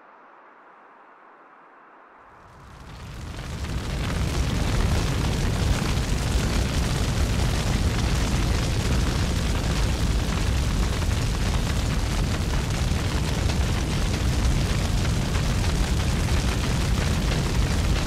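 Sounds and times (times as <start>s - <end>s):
wildfire roaring and crackling: 2.4s - 18.0s.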